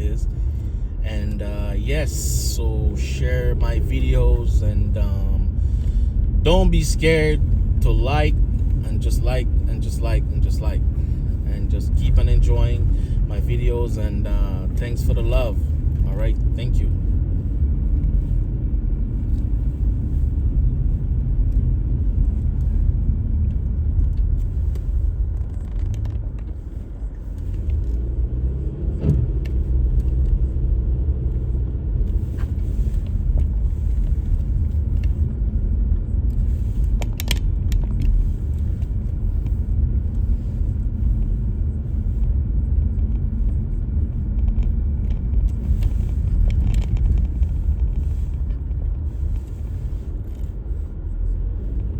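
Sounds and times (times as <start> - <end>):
car engine and tyres rumbling: 0.0 - 51.9.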